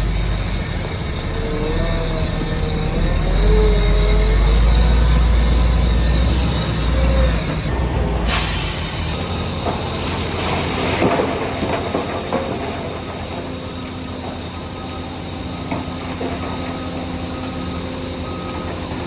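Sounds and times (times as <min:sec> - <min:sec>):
crawler tracks squealing and clanking: 0:00.0 - 0:19.0
diesel engine rumbling: 0:00.0 - 0:19.0.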